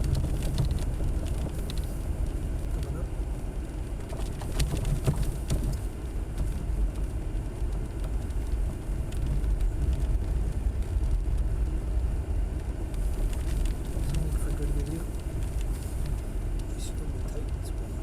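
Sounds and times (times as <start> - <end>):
engine and tyres rumbling: 0.0 - 18.0.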